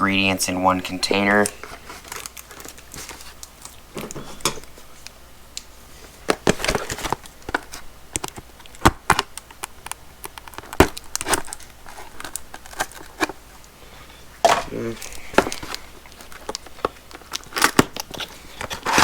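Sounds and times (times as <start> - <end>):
packaging crinkling: 1.0 - 13.8, 14.4 - 19.0.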